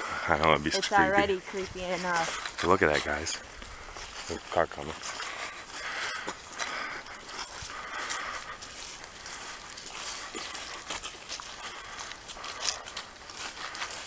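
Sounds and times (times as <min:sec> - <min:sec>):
footsteps through grass and leaves: 0:00.0 - 0:14.0.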